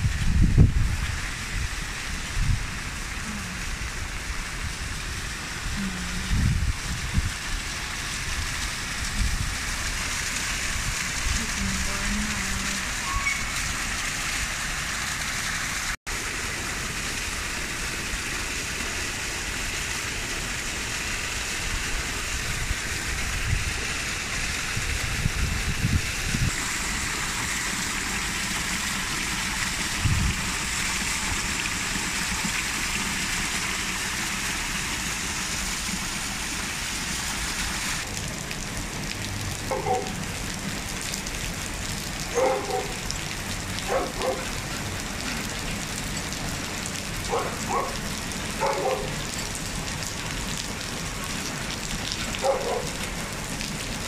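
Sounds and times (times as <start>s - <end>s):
rain on foliage and paving: 0.0s - 54.0s.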